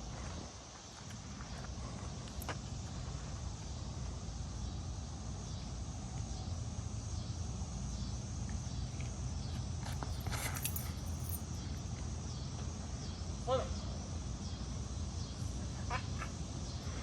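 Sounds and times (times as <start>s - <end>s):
faint insects chirring: 0.0s - 17.0s.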